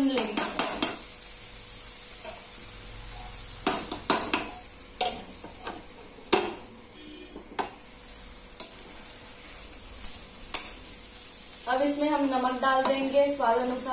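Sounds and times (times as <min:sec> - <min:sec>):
food sizzling: 0:00.0 - 0:13.9.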